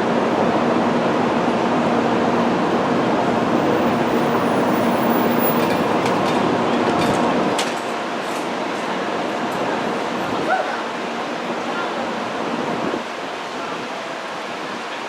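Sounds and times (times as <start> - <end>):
faint train hum: 0.0 - 15.0
train rolling rush: 0.0 - 15.0.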